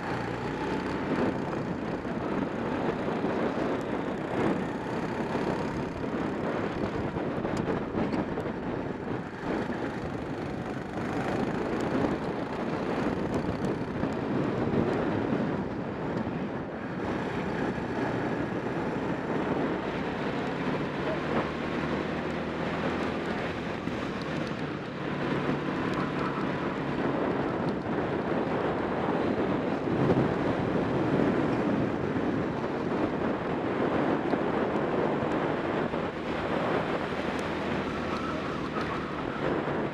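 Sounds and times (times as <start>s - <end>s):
kart engine running hard: 0.0s - 39.9s
wind noise on microphone: 0.0s - 39.9s.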